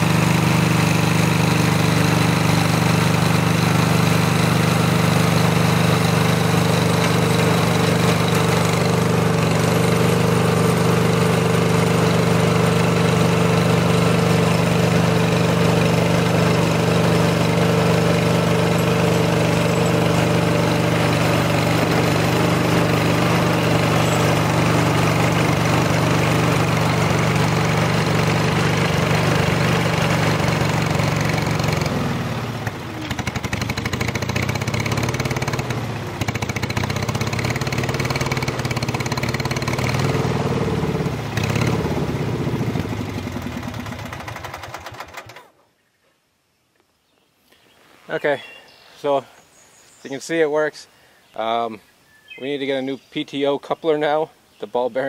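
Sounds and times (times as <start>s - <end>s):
garden tractor engine running: 0.0s - 45.6s
rototiller tines churning soil: 0.0s - 45.6s.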